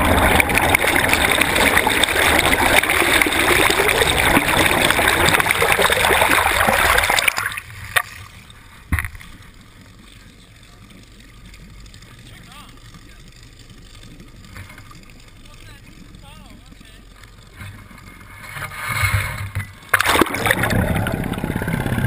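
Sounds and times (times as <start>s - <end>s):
water rushing and gurgling: 0.0s - 22.0s.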